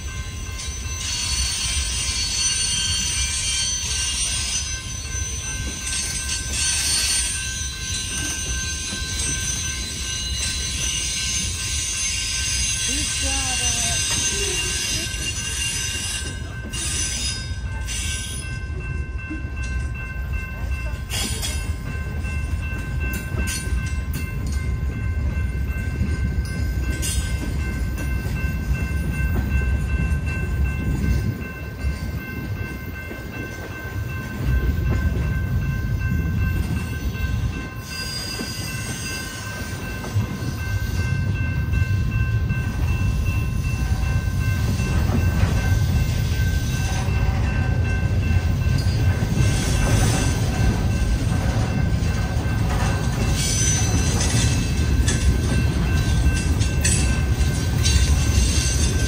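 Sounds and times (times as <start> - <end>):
crossing bell ringing: 0.0 - 59.0
freight train wheels rumbling: 0.0 - 59.0.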